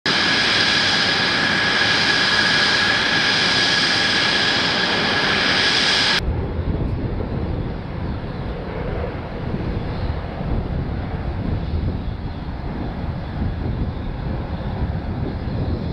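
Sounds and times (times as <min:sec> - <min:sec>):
aircraft flying over rumble: 0:00.1 - 0:15.9
jet engine high whine: 0:00.1 - 0:15.9.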